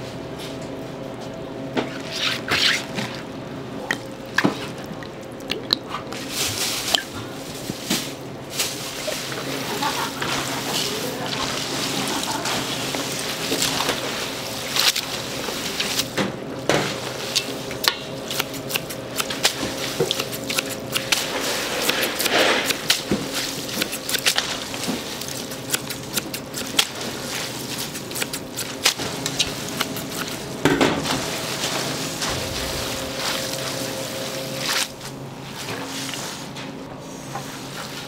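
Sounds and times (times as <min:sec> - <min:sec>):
steady hum: 0:00.0 - 0:38.0
wet squishing of food mixing: 0:02.8 - 0:07.2, 0:08.8 - 0:36.3.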